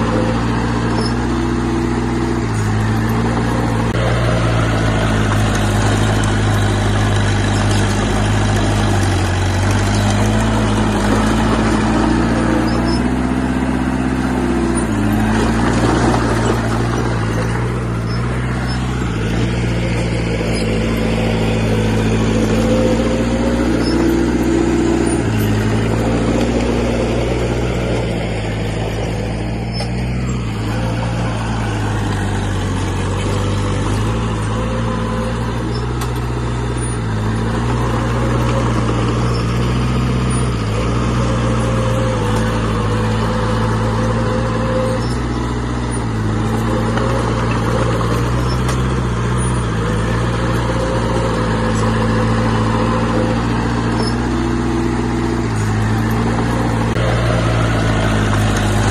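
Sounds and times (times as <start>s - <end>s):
heavy diesel engine under load: 0.0s - 58.9s.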